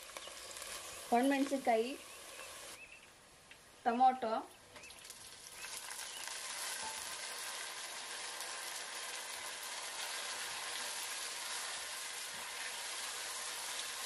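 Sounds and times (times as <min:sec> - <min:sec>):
vegetables sizzling in hot oil: 0:00.0 - 0:03.0, 0:04.8 - 0:14.0.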